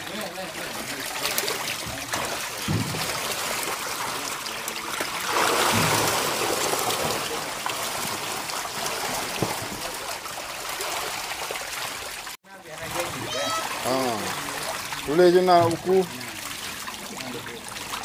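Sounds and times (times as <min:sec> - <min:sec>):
fish thrashing in water: 0:00.0 - 0:18.0
small splashes: 0:00.0 - 0:18.0.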